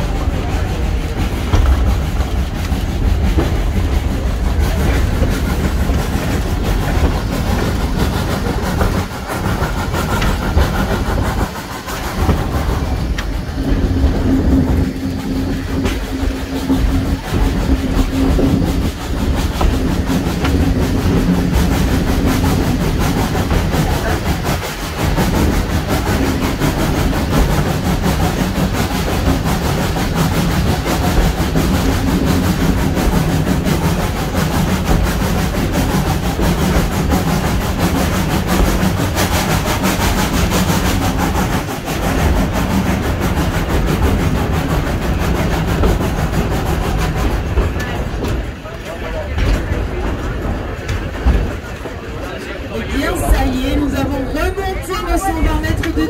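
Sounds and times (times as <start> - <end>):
low hum: 0.0 - 56.0
steam locomotive rumble: 0.0 - 56.0
train wheels on rails: 0.0 - 56.0.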